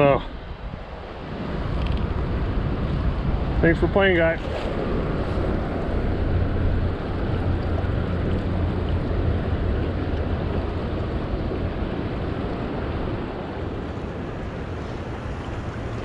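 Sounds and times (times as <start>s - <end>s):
creek rushing over rocks: 0.0s - 16.0s
low rumble: 0.3s - 16.0s.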